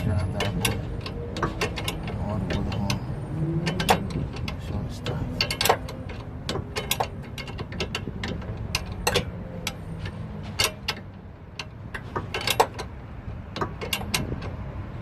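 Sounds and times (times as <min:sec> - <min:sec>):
hand ratchet clicking: 0:00.0 - 0:14.7.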